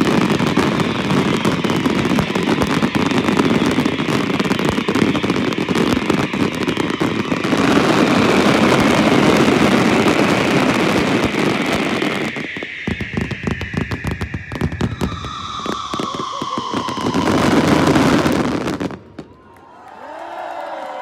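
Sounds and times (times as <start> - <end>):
firecrackers crackling: 0.0 - 19.5
fireworks rumble: 0.0 - 19.5
falling firework whistle: 0.0 - 19.6.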